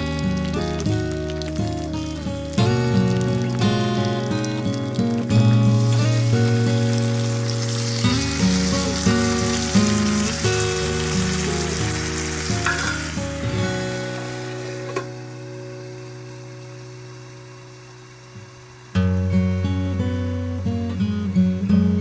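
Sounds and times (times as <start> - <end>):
dumplings sizzling in a pan: 0.0 - 22.0
gentle background music: 0.0 - 22.0.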